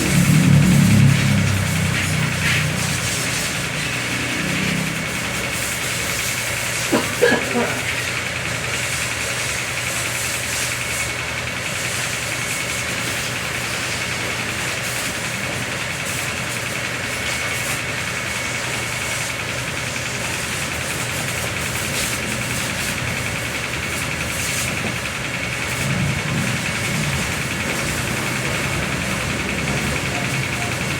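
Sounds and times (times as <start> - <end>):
motor humming with high whine: 0.0 - 30.9.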